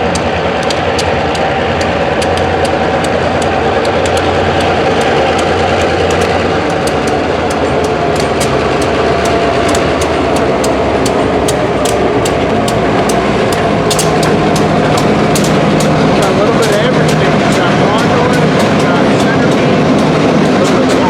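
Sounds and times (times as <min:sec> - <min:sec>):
rapid regular clicking: 0:00.0 - 0:21.0
train engine rumble: 0:00.0 - 0:21.0.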